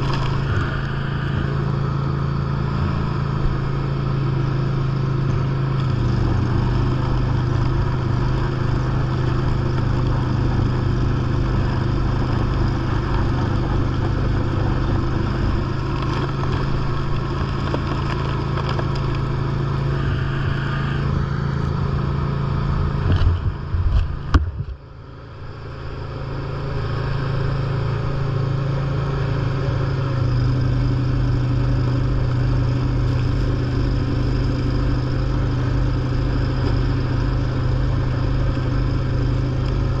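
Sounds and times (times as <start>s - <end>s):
lawn tractor engine running: 0.0s - 40.0s.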